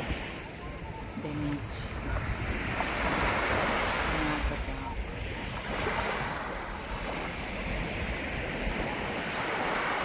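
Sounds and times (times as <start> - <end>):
waves washing onto beach: 0.0 - 10.0
wind rumbling on microphone: 0.0 - 10.0.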